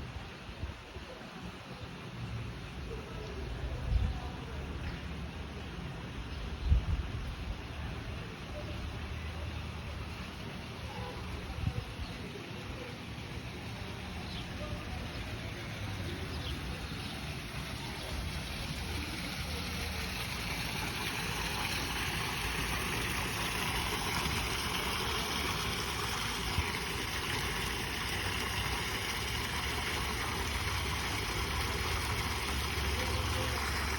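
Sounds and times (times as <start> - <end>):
fountain water splashing: 0.0 - 33.9.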